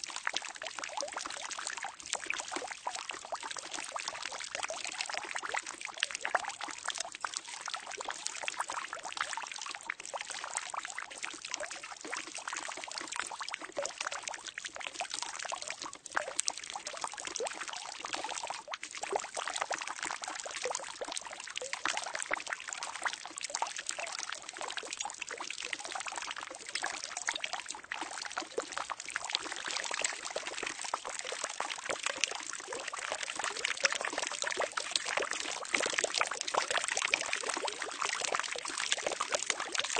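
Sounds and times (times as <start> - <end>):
water pouring into a barrel: 0.0 - 39.9.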